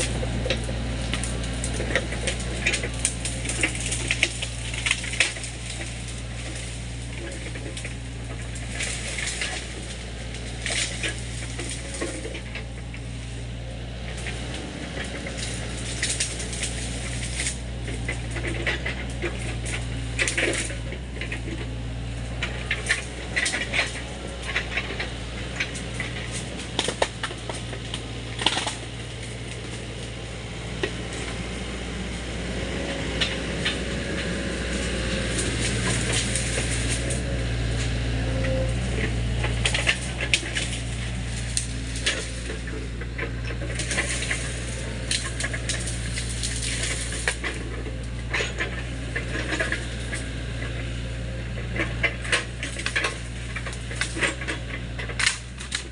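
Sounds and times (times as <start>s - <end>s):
cracks and clanks of brush: 0.0s - 55.9s
excavator diesel engine: 0.0s - 55.9s.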